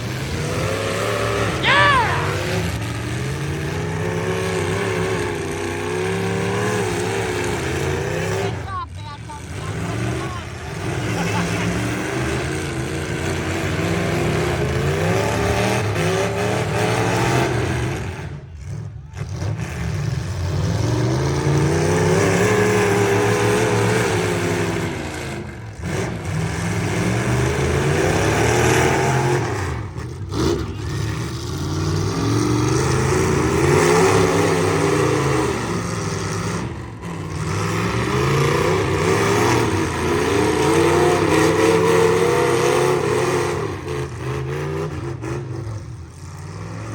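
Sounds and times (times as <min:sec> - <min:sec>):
truck engines revving: 0:00.0 - 0:46.9.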